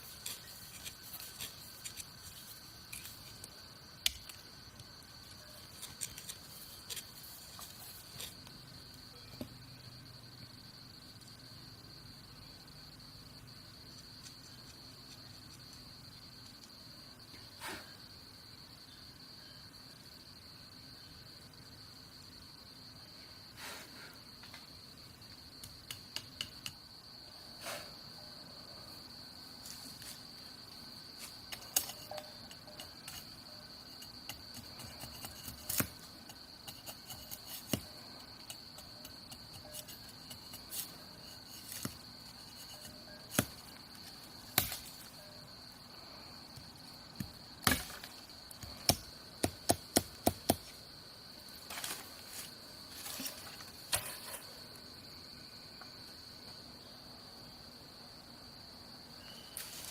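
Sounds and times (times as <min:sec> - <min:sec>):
insect trill: 0:00.0 - 0:59.9.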